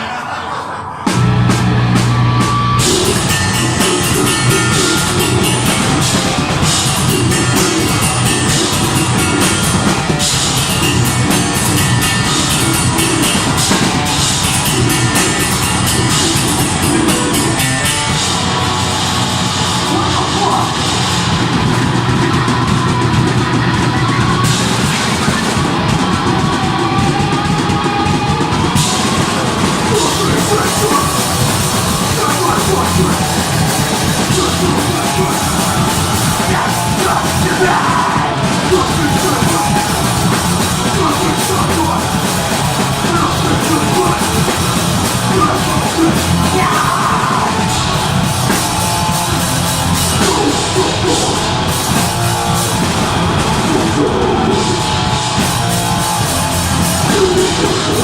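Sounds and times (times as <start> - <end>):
distorted guitars and bass: 0.0 - 58.0
yelled vocals: 0.0 - 58.0
fast drum kit: 1.1 - 58.0.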